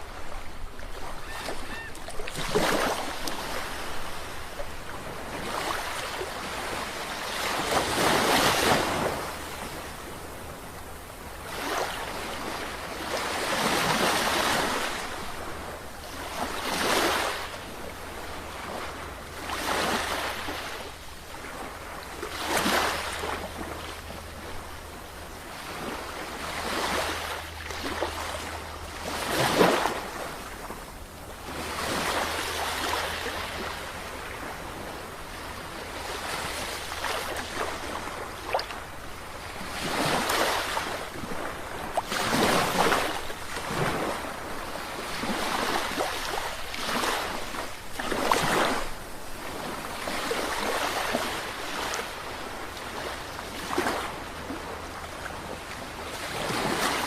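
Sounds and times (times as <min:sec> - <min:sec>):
sea waves breaking: 0:00.0 - 0:10.6, 0:11.2 - 0:24.7, 0:25.3 - 0:57.0.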